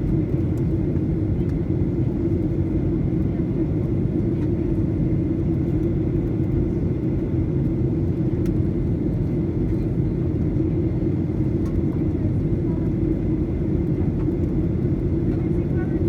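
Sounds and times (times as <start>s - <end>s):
airplane cabin drone: 0.0s - 16.0s.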